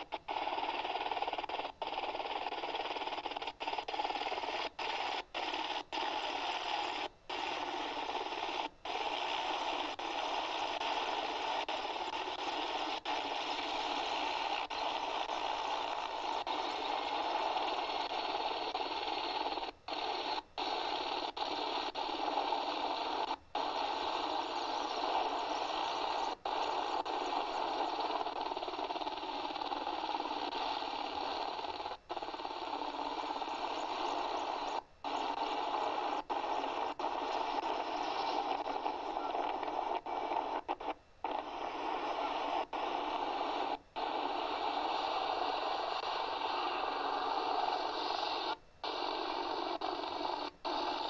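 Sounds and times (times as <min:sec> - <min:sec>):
static-like hiss: 0:00.0 - 0:51.0.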